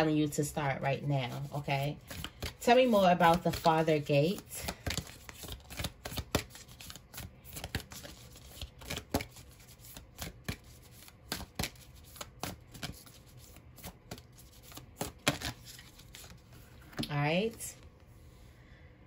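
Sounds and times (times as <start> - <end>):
cards being shuffled: 1.3 - 17.6.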